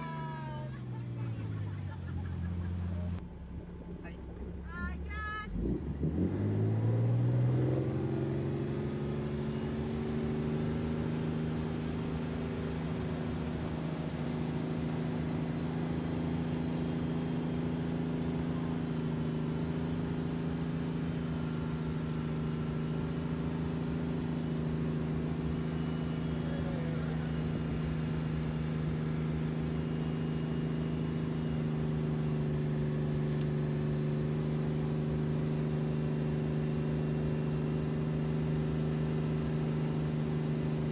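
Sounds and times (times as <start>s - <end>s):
boat engine throttling up: 0.0s - 4.6s, 5.8s - 40.9s.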